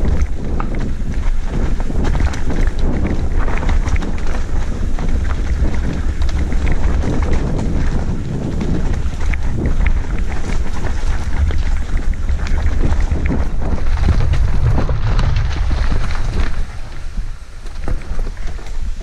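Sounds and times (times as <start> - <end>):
bike clicks and rattles: 0.0 - 19.0
tyres on dirt trail: 0.0 - 19.0
wind buffeting microphone: 0.0 - 19.0.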